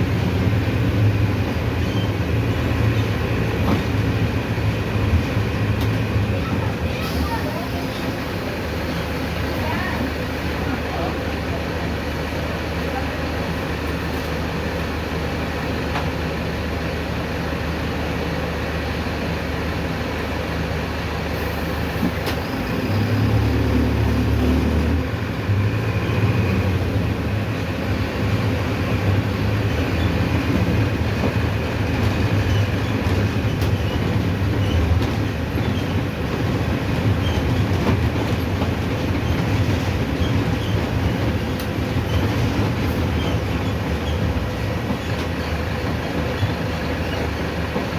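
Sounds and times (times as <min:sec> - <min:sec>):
diesel bus engine: 0:00.0 - 0:47.9.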